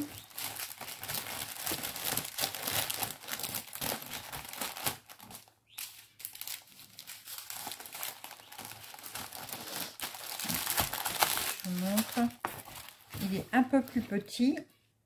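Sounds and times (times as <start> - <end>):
packaging crinkling: 0.0 - 13.5.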